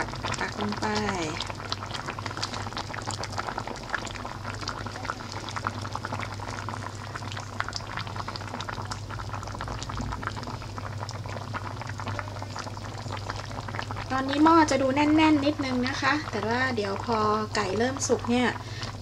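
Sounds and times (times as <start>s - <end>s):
broth bubbling in a pot: 0.0s - 19.0s.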